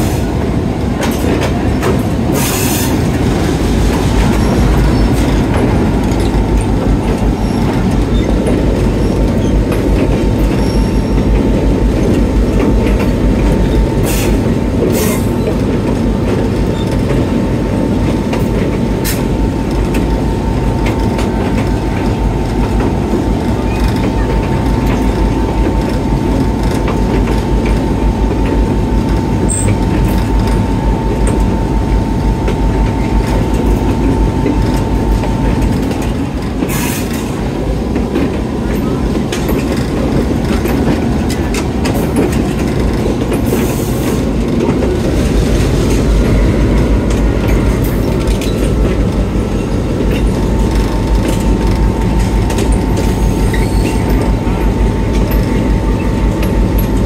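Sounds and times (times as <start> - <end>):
train rolling with heavy rumble: 0.0 - 57.0.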